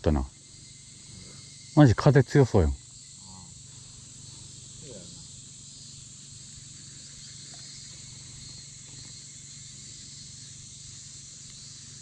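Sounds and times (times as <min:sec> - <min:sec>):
insect chorus hiss: 0:00.0 - 0:12.0.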